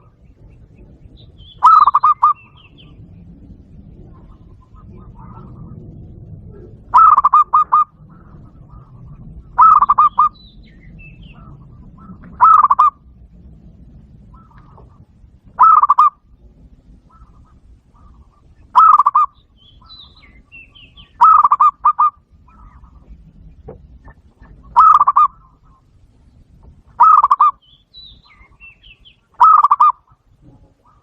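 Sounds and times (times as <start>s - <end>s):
dove cooing calls from speaker: 0.0s - 13.1s, 14.3s - 16.3s, 16.9s - 25.9s, 26.9s - 27.6s, 28.2s - 31.0s.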